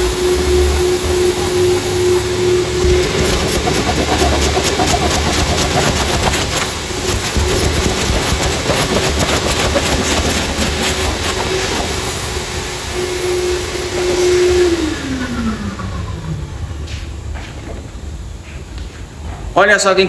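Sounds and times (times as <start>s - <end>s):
vacuum motor winding down: 0.0s - 18.3s
vacuum cleaner running: 0.0s - 19.2s.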